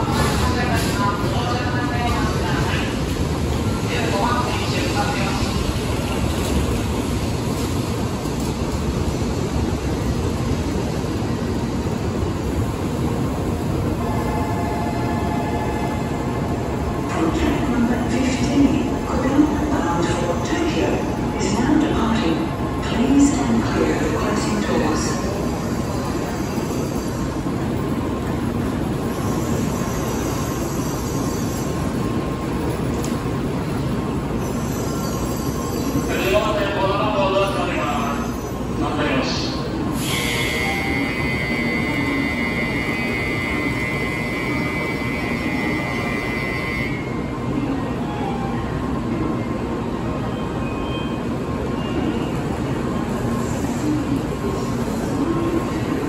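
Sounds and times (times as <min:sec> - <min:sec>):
busy station platform noise: 0:00.0 - 0:56.0
trains rumbling and hissing: 0:00.0 - 0:56.0.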